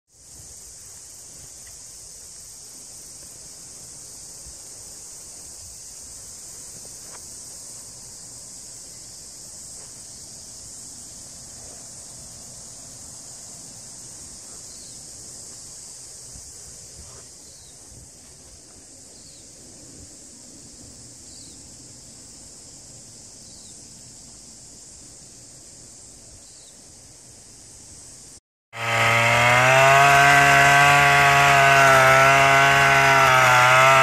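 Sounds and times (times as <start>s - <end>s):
high-pitched insect chorus: 0.1s - 28.4s.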